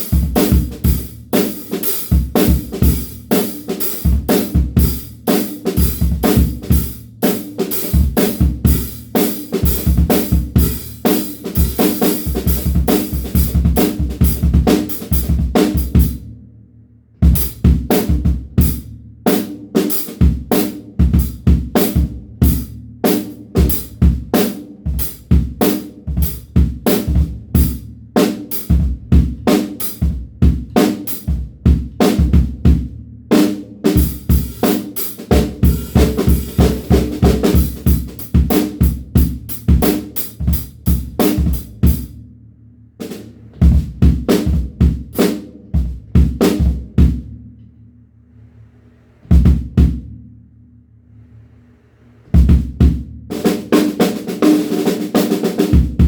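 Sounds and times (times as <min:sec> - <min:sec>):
drum kit grooves and fills: 0:00.0 - 0:47.6, 0:49.3 - 0:50.3, 0:52.3 - 0:56.0.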